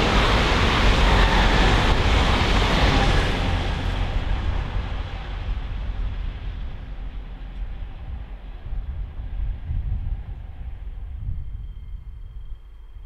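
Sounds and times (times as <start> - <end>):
low rumble: 0.0 - 13.0
train rolling past on rails: 0.0 - 13.0.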